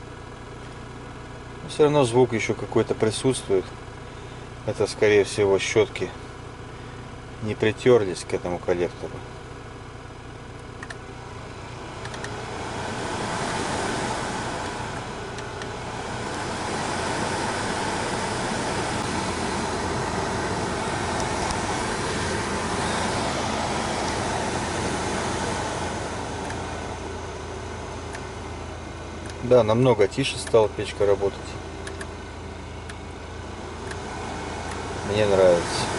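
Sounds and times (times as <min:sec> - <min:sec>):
faint motor noise: 0:01.6 - 0:35.9
heater blower fan rushing air: 0:01.6 - 0:35.9.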